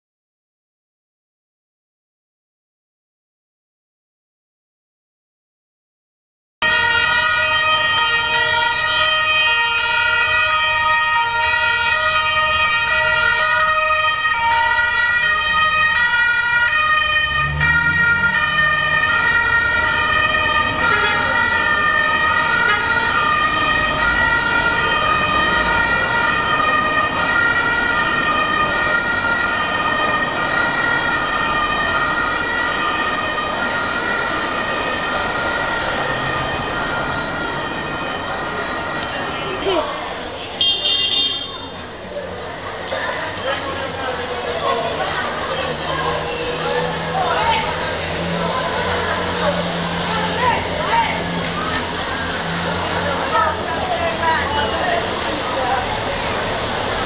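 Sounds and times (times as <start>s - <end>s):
car engines and tyres: 6.6s - 57.0s
two-tone sirens: 6.6s - 57.0s.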